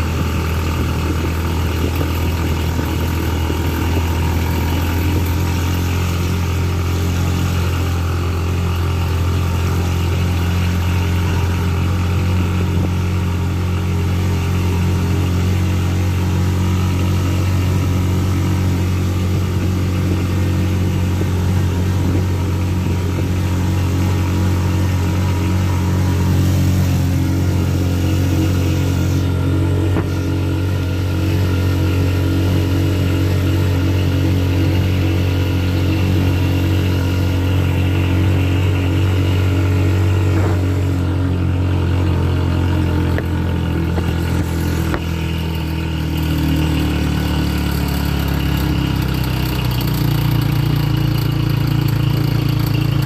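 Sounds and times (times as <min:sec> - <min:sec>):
vehicle engine humming: 0:00.0 - 0:53.0.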